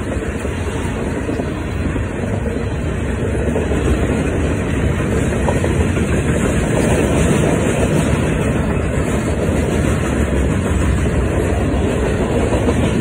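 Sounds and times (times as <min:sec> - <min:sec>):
freight train wagons rolling on rails: 0:00.0 - 0:13.0.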